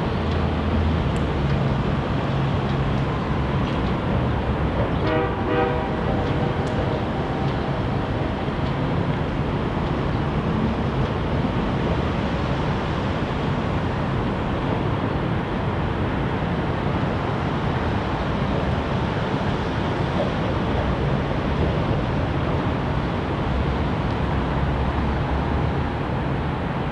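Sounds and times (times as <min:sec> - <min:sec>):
city traffic: 0:00.0 - 0:26.9
wind: 0:00.0 - 0:26.9.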